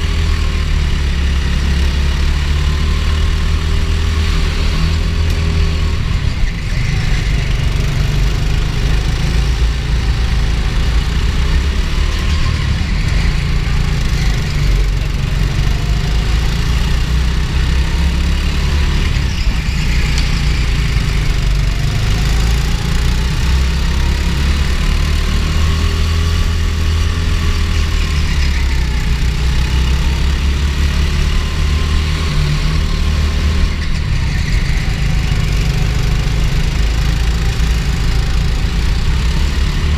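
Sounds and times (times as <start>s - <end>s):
go-kart engine droning: 0.0s - 39.9s.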